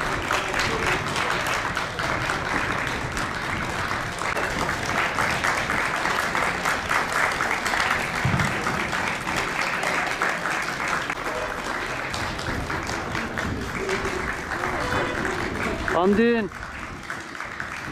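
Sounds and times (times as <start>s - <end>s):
people applauding: 0.0s - 17.9s.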